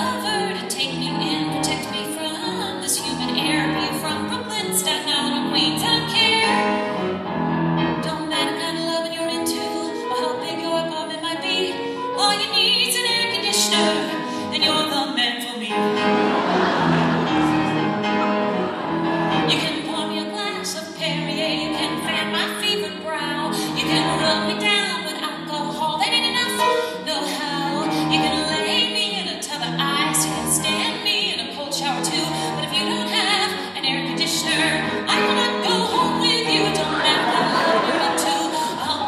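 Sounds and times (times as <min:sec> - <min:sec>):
woman singing into microphone: 0:00.0 - 0:06.6, 0:08.0 - 0:15.8, 0:19.5 - 0:39.0
grand piano: 0:00.0 - 0:39.0.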